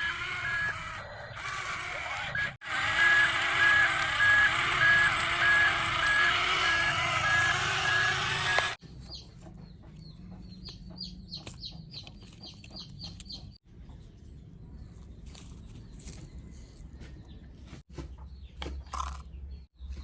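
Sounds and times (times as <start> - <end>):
bird chirping: 0.0 - 17.4.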